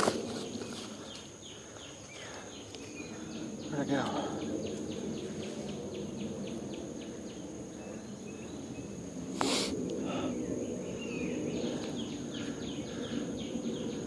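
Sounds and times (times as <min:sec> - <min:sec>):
high insect tone: 0:00.0 - 0:14.0.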